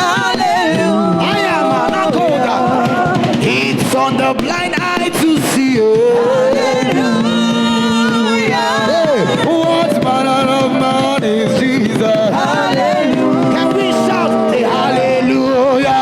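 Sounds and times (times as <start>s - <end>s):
percussive hits: 0.0s - 15.4s
gospel singing: 0.0s - 16.0s.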